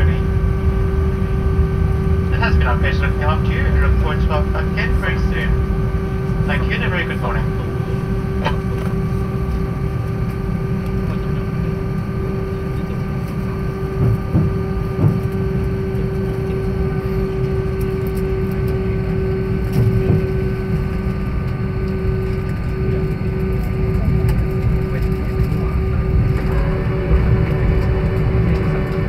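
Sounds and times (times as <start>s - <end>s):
cabin low rumble: 0.0s - 29.0s
engine hum: 0.0s - 29.0s.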